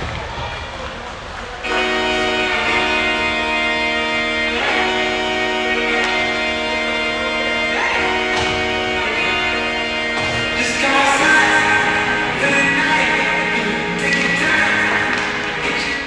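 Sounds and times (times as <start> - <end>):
strummed guitar chords: 1.6 - 16.0.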